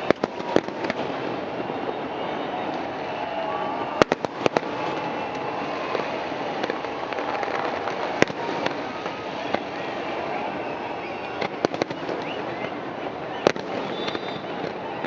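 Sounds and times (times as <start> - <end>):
fireworks bangs: 0.0 - 15.0
small fireworks pops: 0.0 - 15.0.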